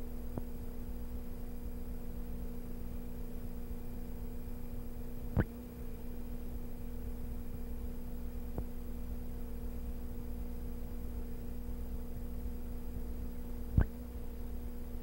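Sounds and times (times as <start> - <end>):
steady two-tone hum: 0.0 - 15.0.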